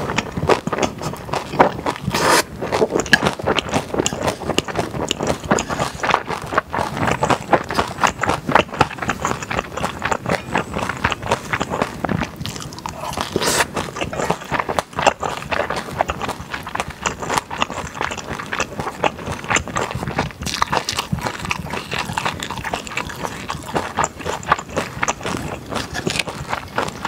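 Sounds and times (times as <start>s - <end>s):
slurping noodles: 0.0s - 27.0s
wet chewing with smacks: 0.0s - 27.0s.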